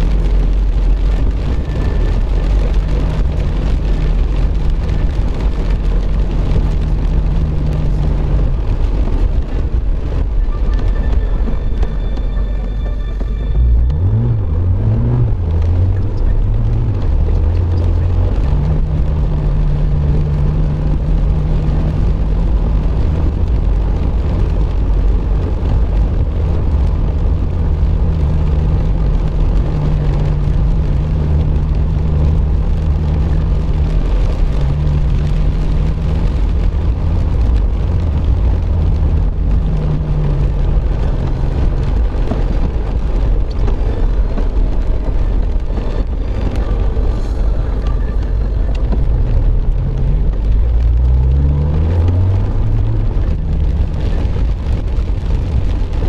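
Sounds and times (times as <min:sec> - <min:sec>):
car engine drone: 0:00.0 - 0:56.0
heavy rain: 0:00.0 - 0:56.0
tyre noise on wet road: 0:00.0 - 0:56.0.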